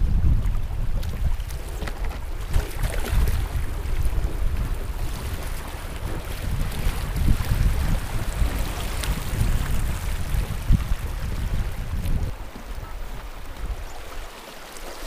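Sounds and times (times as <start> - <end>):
wind buffeting microphone: 0.0 - 14.4
river water flowing: 1.5 - 15.0.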